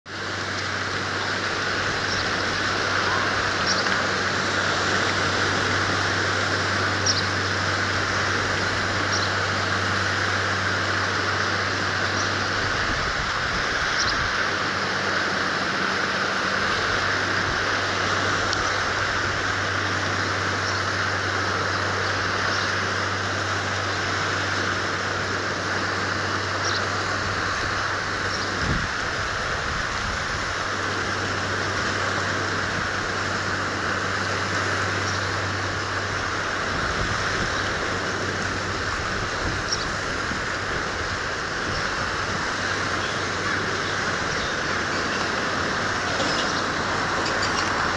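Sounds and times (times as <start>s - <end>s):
low steady hum: 0.1s - 47.9s
sea and wind hiss: 0.1s - 47.9s.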